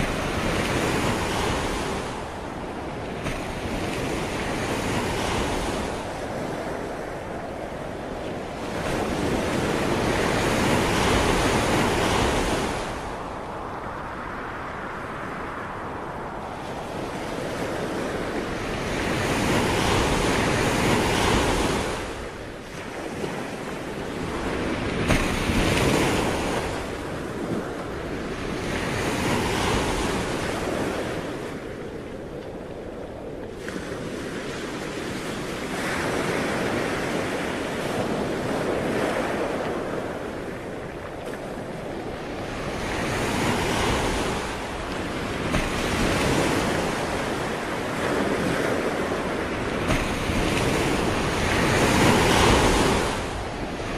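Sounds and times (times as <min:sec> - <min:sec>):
sea waves washing in: 0:00.0 - 0:53.9
wind on microphone: 0:00.0 - 0:53.9.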